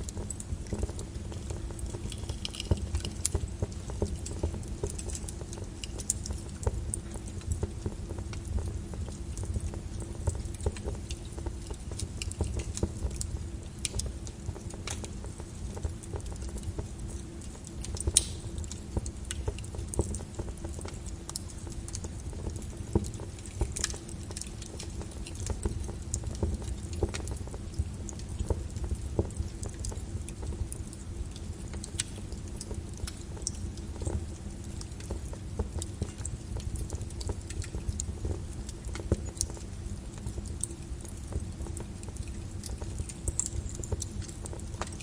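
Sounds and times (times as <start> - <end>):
lava flow crackling: 0.0 - 45.0.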